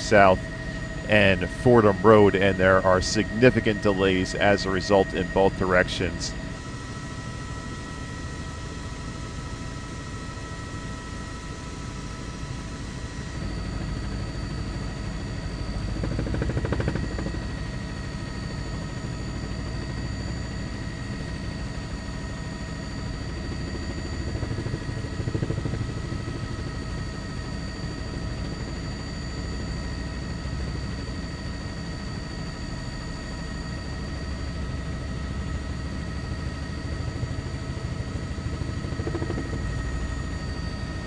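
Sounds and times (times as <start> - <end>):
helicopter rotor and engine: 0.0 - 41.0
turbine whine: 0.0 - 41.0.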